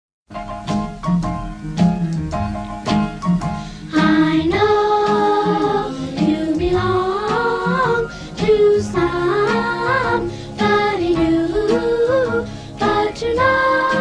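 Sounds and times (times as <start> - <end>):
repeated chords: 0.6 - 14.0.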